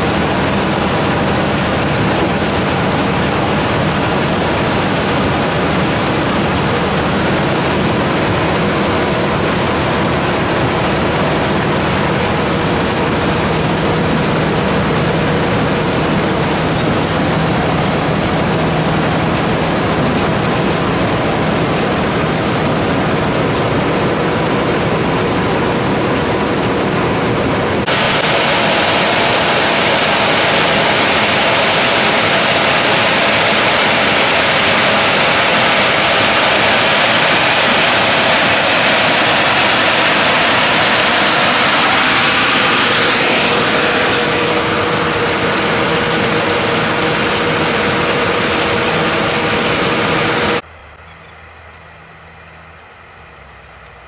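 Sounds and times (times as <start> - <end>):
harvester machine running: 0.0 - 54.0
rising machine whine: 0.0 - 54.0.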